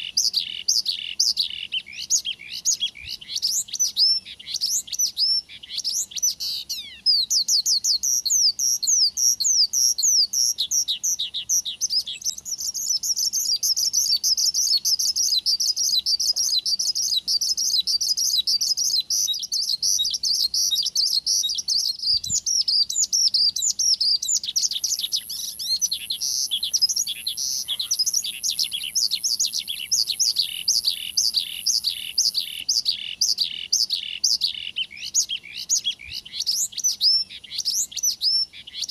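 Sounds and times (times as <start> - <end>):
lark singing whistled notes: 0.0 - 38.9.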